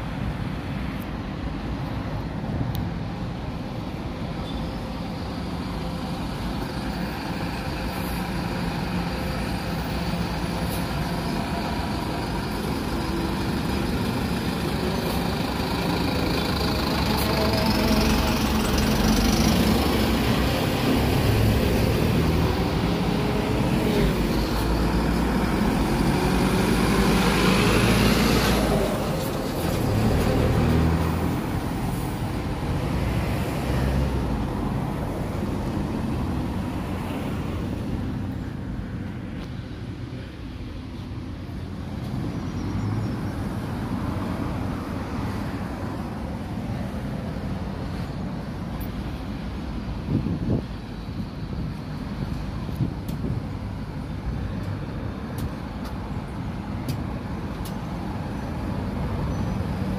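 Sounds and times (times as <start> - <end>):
bus diesel engines running: 0.0 - 59.9.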